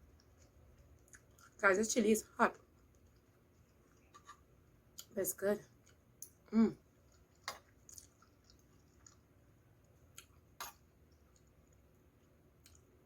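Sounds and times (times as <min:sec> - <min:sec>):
chewing clicks and mouth noises: 0:00.0 - 0:01.6, 0:02.5 - 0:05.2, 0:05.8 - 0:12.9.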